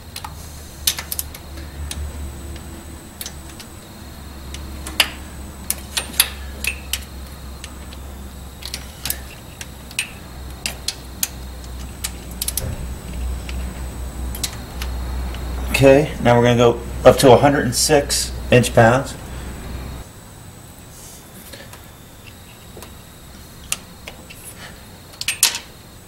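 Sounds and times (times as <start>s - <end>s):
low hum: 0.0s - 25.1s.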